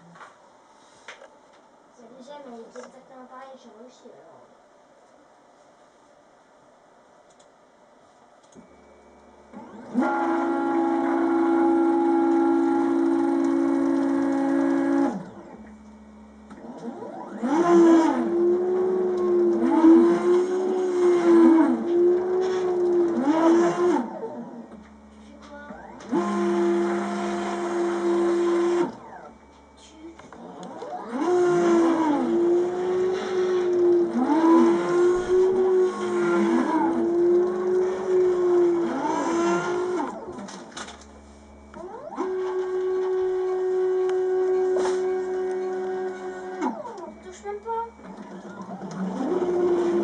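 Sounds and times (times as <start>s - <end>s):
stepper motors whining: 9.5s - 50.0s.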